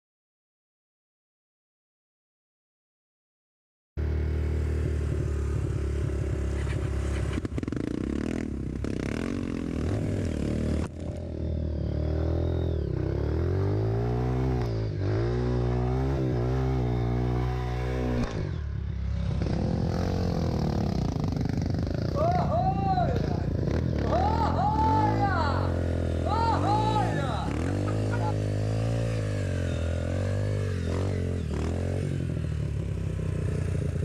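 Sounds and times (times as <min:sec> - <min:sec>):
motorcycle engine revving: 0:04.0 - 0:34.0.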